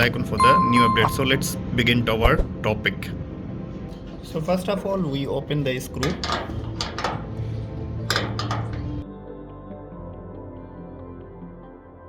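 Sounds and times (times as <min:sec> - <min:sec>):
soft ambient music: 0:00.0 - 0:12.0.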